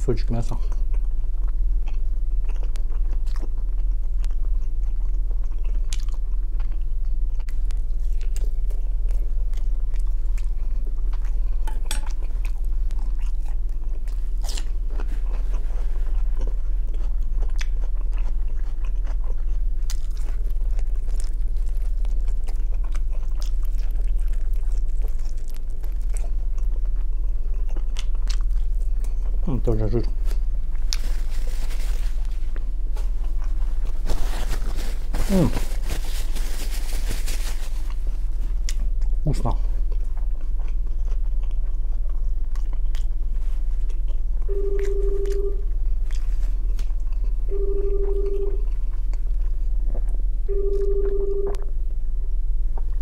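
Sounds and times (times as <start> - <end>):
man chewing meat: 0.0 - 53.0
steady low hum: 0.0 - 53.0.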